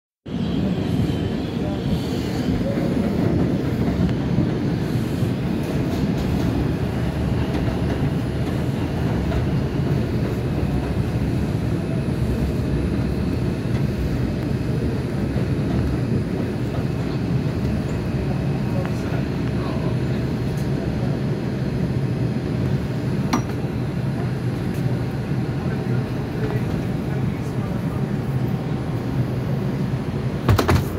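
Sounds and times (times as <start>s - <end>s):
subway train on rails: 0.2s - 30.9s.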